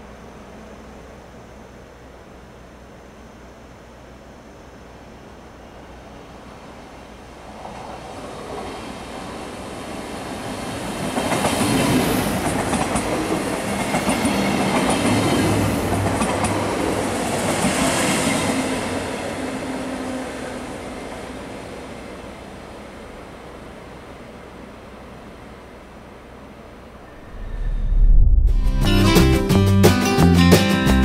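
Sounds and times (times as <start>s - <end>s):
train passing: 0.0s - 30.1s.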